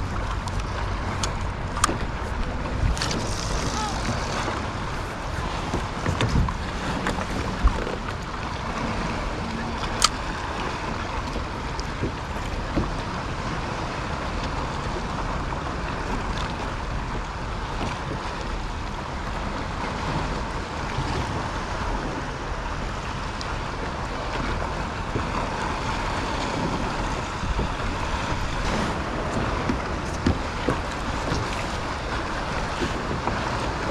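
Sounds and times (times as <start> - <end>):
water washing against kayak hull: 0.0 - 33.9
wind on microphone: 0.0 - 33.9.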